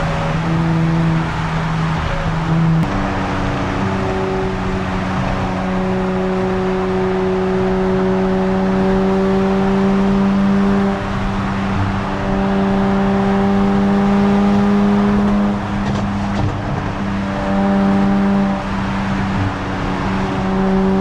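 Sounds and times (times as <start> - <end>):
car exhaust drone: 0.0 - 21.0.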